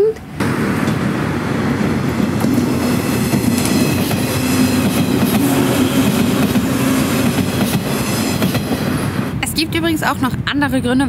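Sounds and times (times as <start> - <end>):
train wheels rumbling on rails: 0.2 - 11.0.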